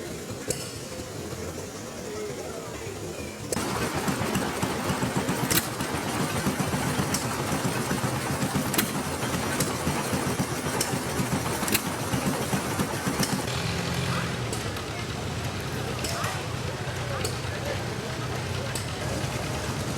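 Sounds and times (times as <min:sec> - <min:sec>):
old engine running unevenly: 0:00.0 - 0:19.9.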